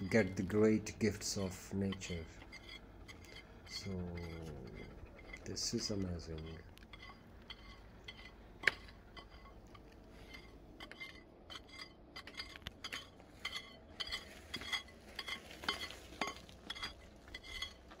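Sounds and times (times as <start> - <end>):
stone chips clinking underfoot: 0.0 - 18.0.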